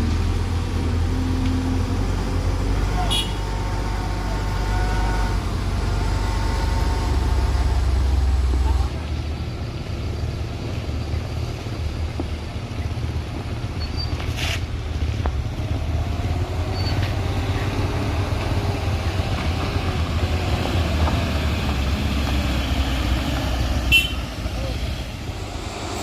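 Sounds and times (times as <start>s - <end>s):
heavy truck engine under load: 0.0s - 26.0s.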